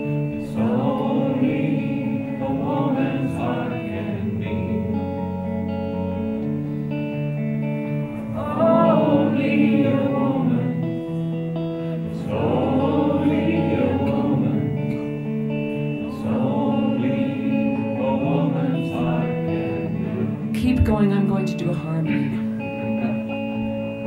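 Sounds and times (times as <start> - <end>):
crowd singing a chorus: 0.0 - 20.7
strummed guitar: 0.0 - 24.0.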